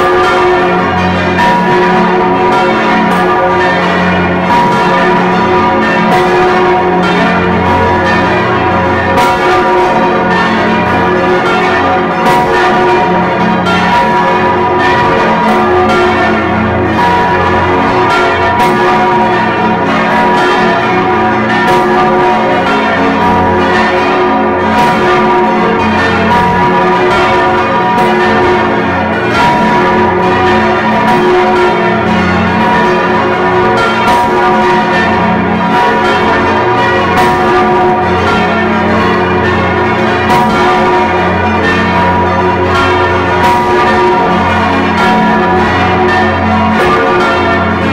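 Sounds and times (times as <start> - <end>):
church bell clapper strikes: 0.0 - 47.9.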